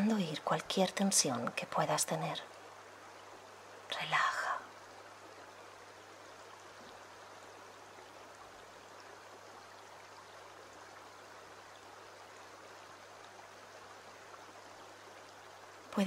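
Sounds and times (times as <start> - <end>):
stream flowing over stones: 0.0 - 16.0.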